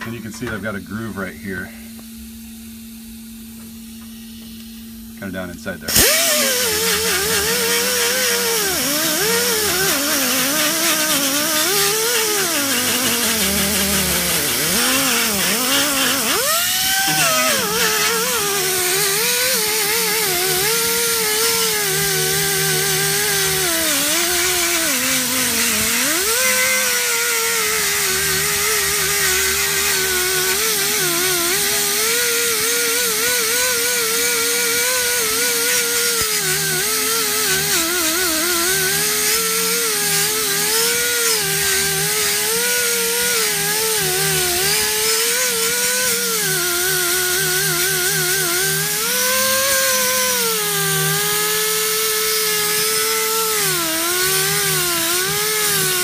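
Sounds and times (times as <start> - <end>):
air grinder whining on metal: 0.0 - 56.0.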